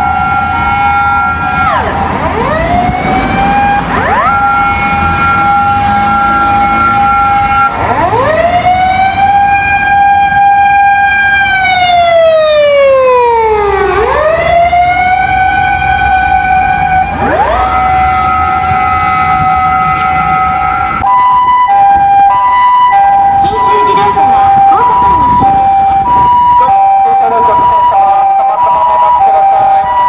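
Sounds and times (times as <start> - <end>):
motor siren wailing: 0.0 - 30.0.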